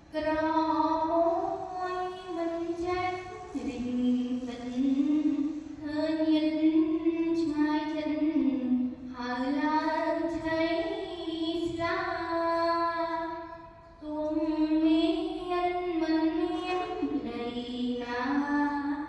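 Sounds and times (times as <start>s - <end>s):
girl chanting verse: 0.0s - 19.0s.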